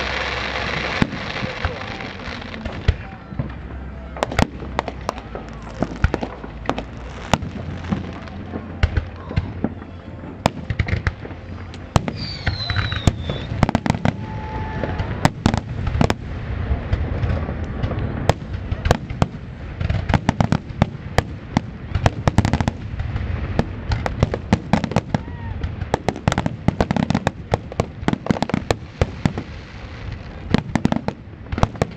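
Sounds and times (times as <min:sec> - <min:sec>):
fireworks bursting with bangs: 0:00.0 - 0:31.9.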